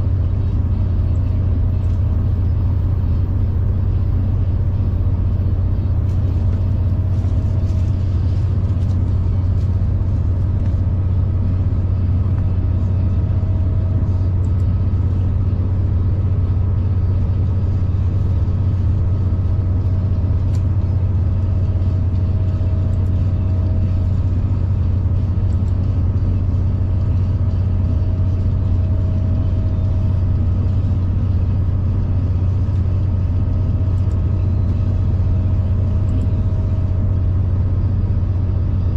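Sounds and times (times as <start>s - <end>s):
faint steady whine: 0.0s - 38.9s
train rumble: 0.0s - 38.9s.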